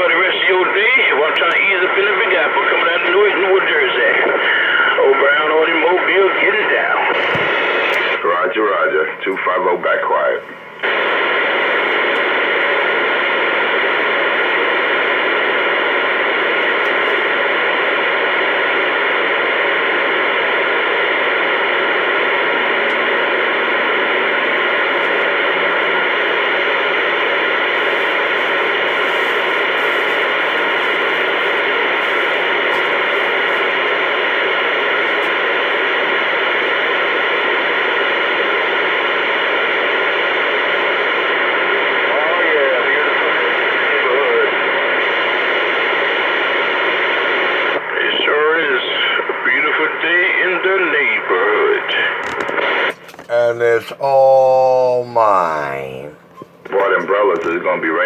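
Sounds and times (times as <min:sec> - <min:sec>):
radio static hiss: 0:00.0 - 0:53.3.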